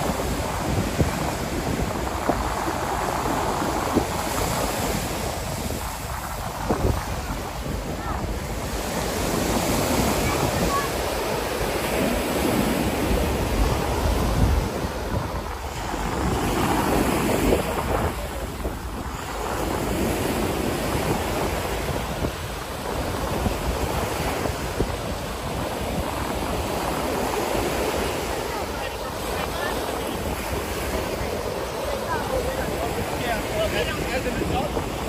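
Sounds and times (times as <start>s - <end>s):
ocean surf on a beach: 0.0s - 35.0s
wind rumbling on microphone: 0.0s - 35.0s.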